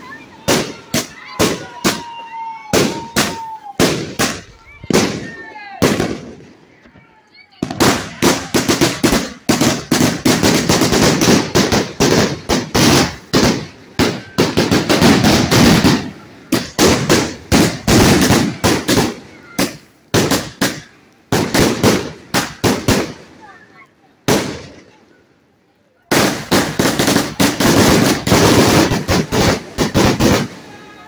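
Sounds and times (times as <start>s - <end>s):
firework cake bangs: 0.0s - 6.5s, 7.6s - 23.6s, 26.1s - 31.0s.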